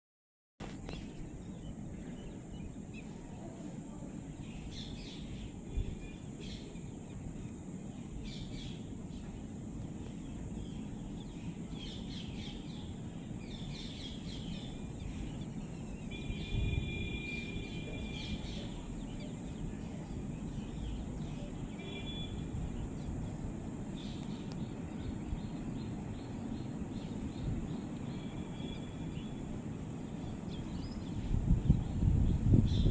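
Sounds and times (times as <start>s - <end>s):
wind buffeting microphone: 0.6s - 8.6s, 9.4s - 32.9s
birds chirping: 0.8s - 32.9s.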